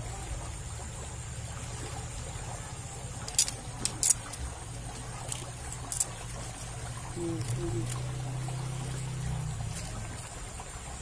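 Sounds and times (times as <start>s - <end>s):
water rushing down a ditch: 0.0s - 11.0s.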